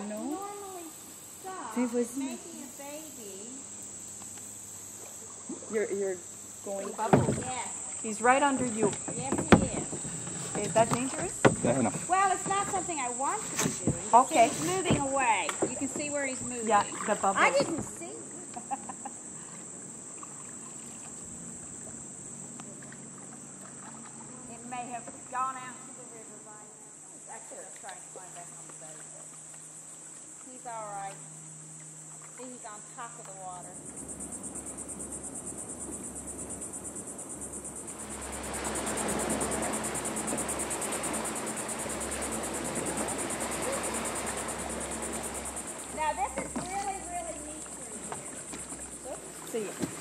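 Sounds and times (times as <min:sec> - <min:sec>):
insects chorus: 0:00.0 - 0:50.0.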